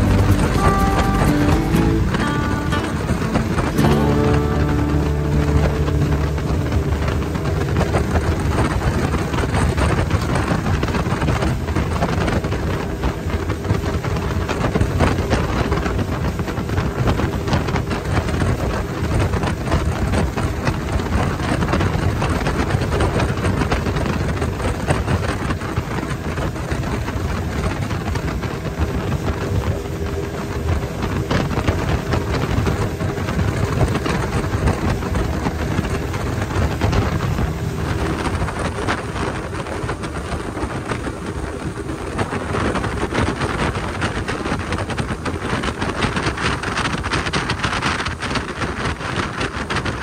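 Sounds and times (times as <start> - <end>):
speedboat engine: 0.0 - 50.0
water rushing against hull: 0.0 - 50.0
wind buffeting microphone: 0.0 - 50.0.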